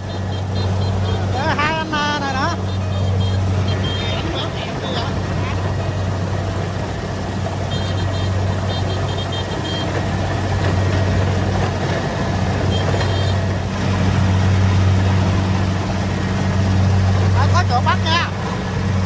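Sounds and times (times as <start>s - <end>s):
combine harvester engine running: 0.0s - 19.0s
cutting and threshing noise: 0.0s - 19.0s.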